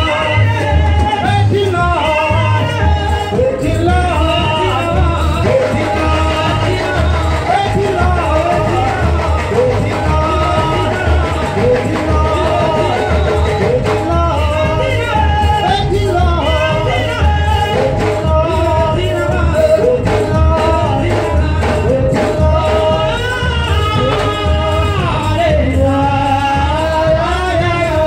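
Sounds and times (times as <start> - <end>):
amplified church music: 0.0 - 28.0.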